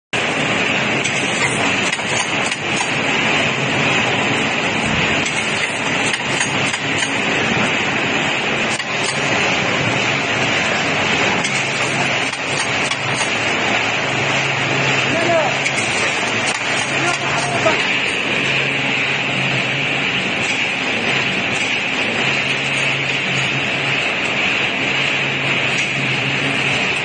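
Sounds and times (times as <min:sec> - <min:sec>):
low machine hum: 0:00.2 - 0:27.0
machine mechanical clatter: 0:00.2 - 0:27.0.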